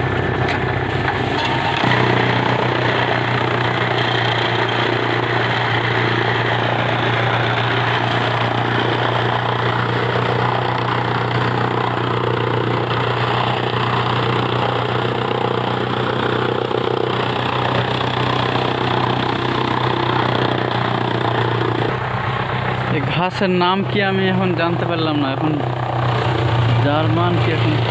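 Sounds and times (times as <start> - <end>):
machine motor humming: 0.0 - 27.9.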